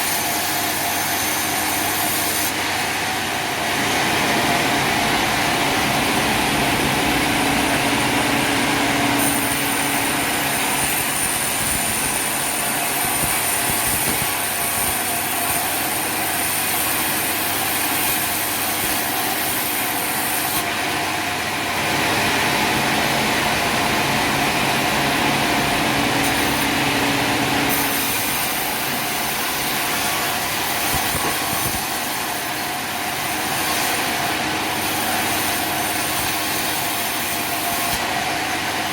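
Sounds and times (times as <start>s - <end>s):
high whine: 0.0s - 38.9s
sawmill engine and saw cutting: 0.0s - 38.9s.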